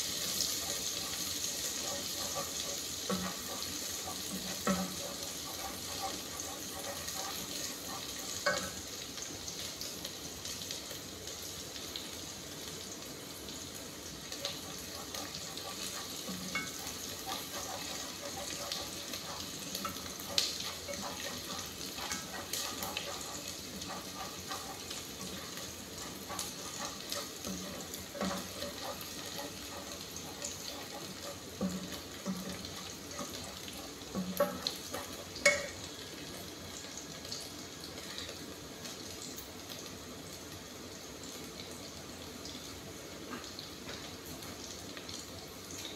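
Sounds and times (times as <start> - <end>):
food sizzling in a pot: 0.0 - 45.9.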